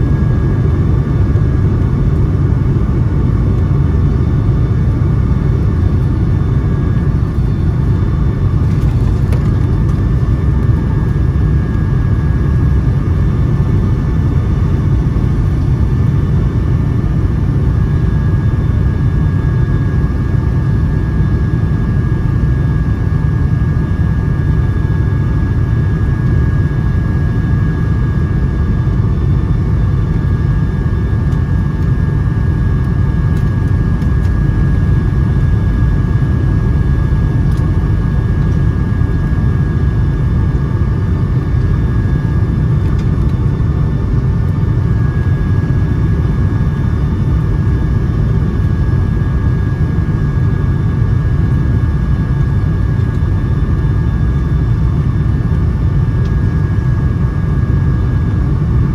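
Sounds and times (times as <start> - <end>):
faint steady whine: 0.0 - 58.9
jet engine rumble in cabin: 0.0 - 58.9.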